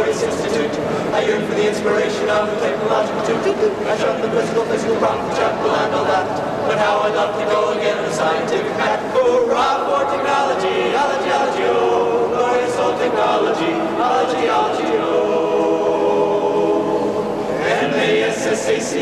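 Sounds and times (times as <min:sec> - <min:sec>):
male vocal group singing in harmony: 0:00.0 - 0:19.0.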